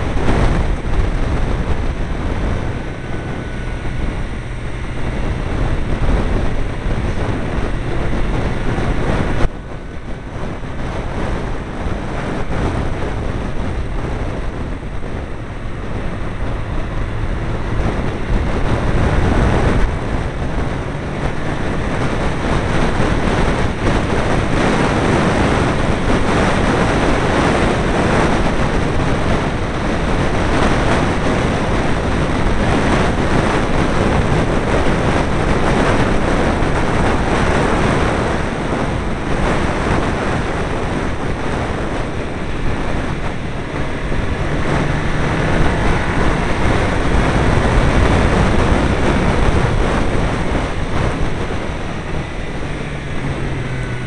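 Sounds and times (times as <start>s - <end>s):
car engine running: 0.0s - 54.0s
wind buffeting microphone: 0.0s - 54.0s.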